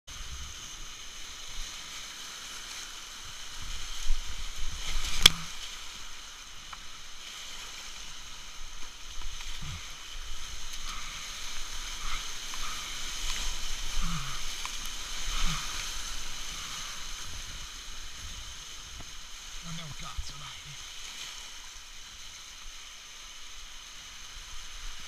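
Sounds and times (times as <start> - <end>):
whitewater rushing and splashing: 0.1 - 25.0.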